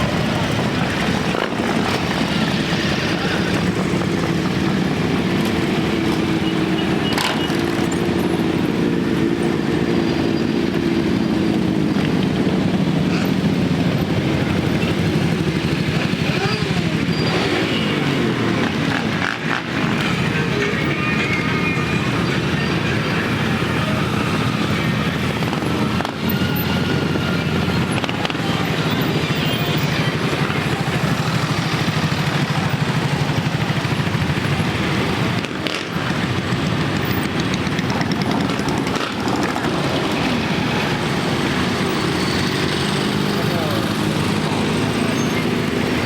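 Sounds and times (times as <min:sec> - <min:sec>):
motorcycles riding past: 0:00.0 - 0:46.0.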